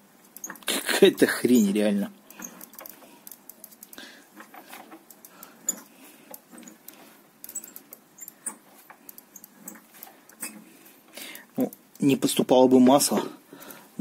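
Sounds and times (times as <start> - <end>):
faint irregular squeaks: 0.0 - 14.0
small clicks: 0.2 - 0.9, 1.5 - 13.0.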